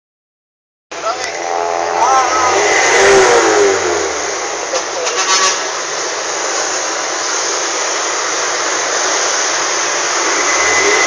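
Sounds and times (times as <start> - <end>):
diesel engine at high revs: 0.9 - 11.0.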